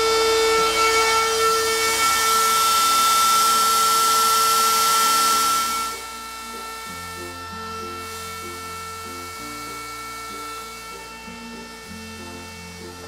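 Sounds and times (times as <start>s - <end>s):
bit cutting into wood: 0.0s - 13.0s
router spindle whine: 0.0s - 13.0s.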